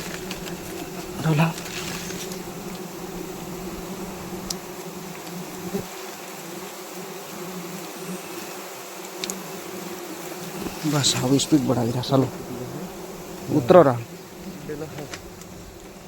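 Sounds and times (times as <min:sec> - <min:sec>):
swarm of bees buzzing: 0:00.0 - 0:16.0.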